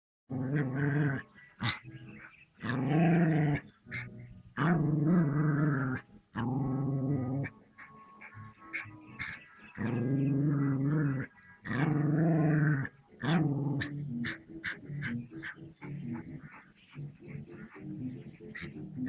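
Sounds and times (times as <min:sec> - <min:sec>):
dog growling: 0:00.3 - 0:19.0.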